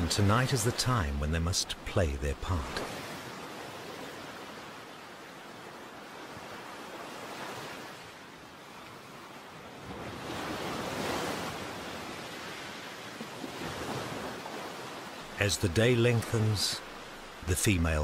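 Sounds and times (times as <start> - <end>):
sea surf over rocks: 0.0 - 18.0.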